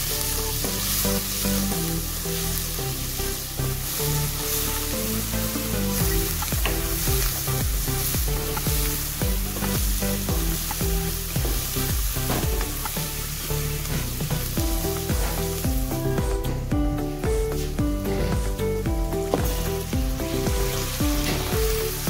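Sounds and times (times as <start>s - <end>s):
background music with held notes: 0.0s - 22.0s
onions sizzling in hot oil: 0.0s - 22.0s.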